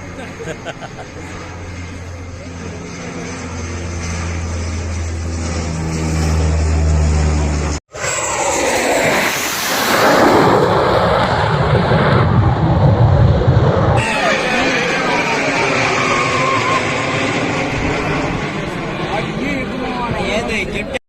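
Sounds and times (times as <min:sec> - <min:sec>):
airplane engine drone: 0:00.0 - 0:21.0
rushing airplane engine noise: 0:00.0 - 0:21.0.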